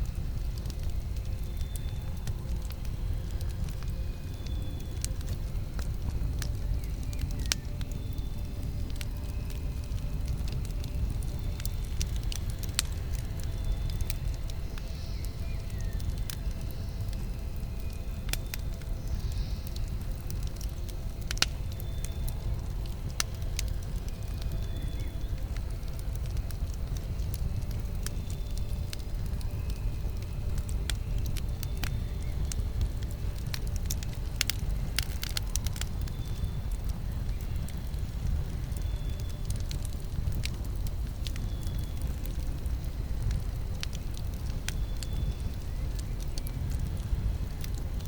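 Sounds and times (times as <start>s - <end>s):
burning wood crackling and popping: 0.0s - 48.0s
campfire flames rumbling: 0.0s - 48.0s.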